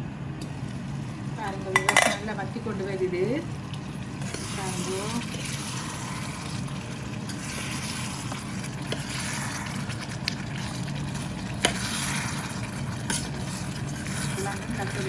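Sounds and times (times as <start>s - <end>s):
curry simmering and sizzling: 0.2s - 15.0s.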